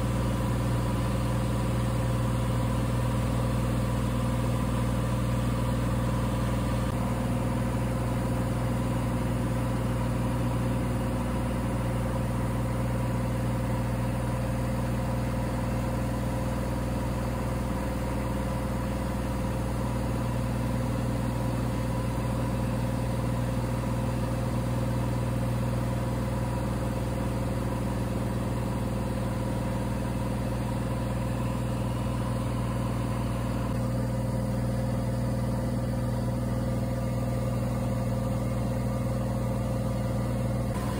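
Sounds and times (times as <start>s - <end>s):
airplane engine droning in cabin: 0.0s - 40.9s.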